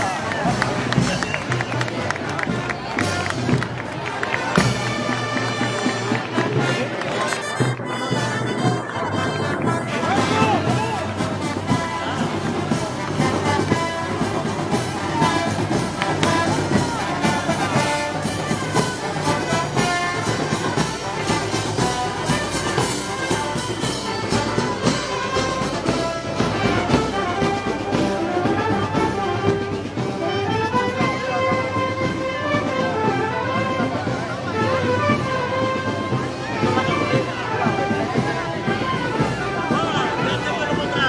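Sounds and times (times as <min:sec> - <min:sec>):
brass band playing: 0:00.0 - 0:41.0.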